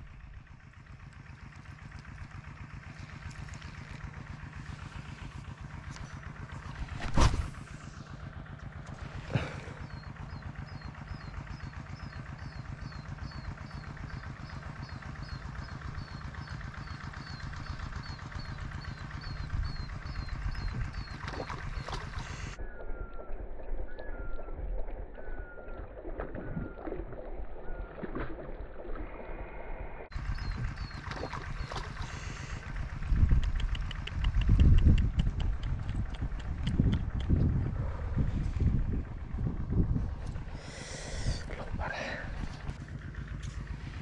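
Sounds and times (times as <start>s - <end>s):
small engine running: 0.0s - 44.0s.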